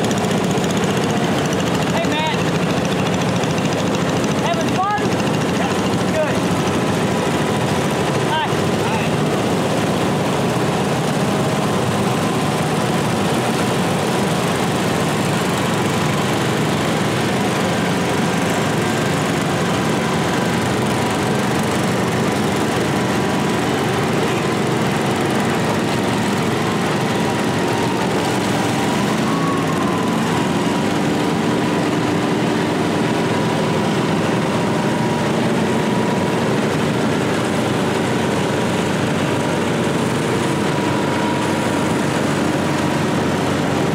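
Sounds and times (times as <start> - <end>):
garden tractor engines running: 0.0 - 43.9.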